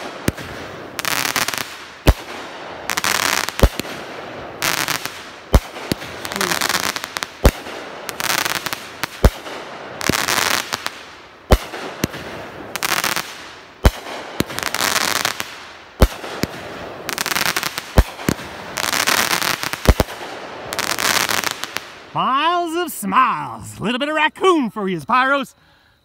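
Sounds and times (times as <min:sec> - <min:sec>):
crackling of bursting stars: 0:00.0 - 0:24.3
fireworks sharp reports: 0:00.0 - 0:25.7.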